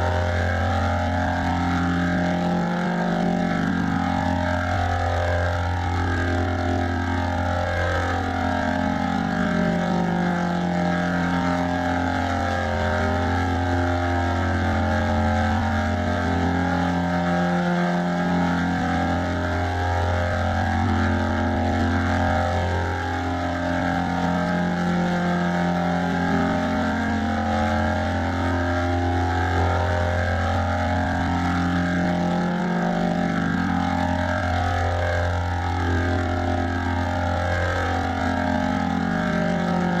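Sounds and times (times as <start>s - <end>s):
deep droning hum: 0.0s - 40.0s.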